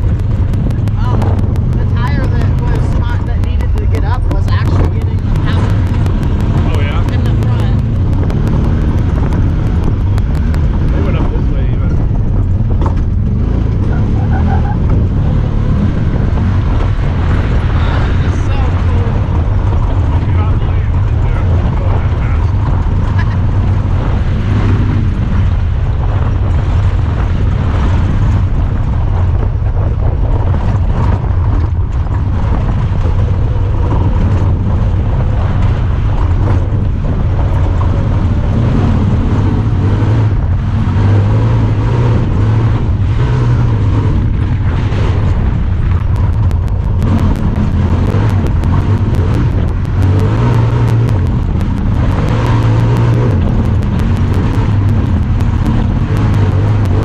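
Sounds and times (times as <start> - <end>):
rapid faint ticking: 0.0 - 25.7, 32.8 - 57.0
engine rumbling while driving: 0.0 - 57.0.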